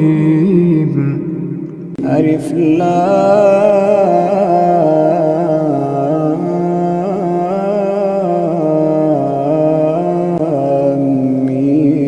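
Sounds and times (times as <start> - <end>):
man reciting in melodic chant: 0.0 - 12.0.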